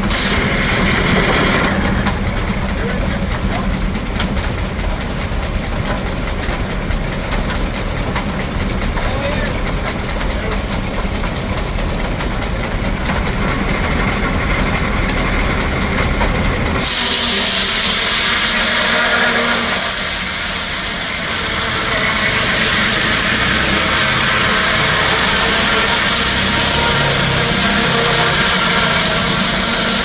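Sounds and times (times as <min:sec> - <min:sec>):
sawmill low rhythmic rumble: 0:00.0 - 0:30.0.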